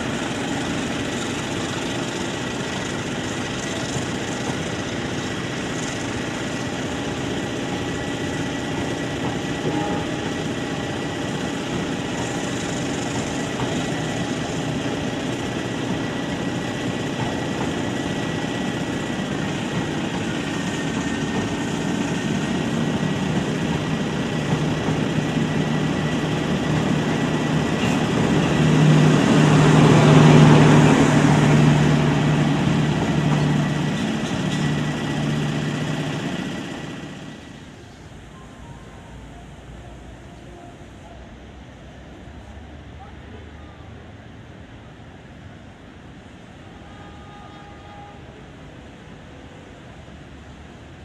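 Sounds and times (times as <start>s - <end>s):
train coaches rumbling past: 0.0s - 51.0s.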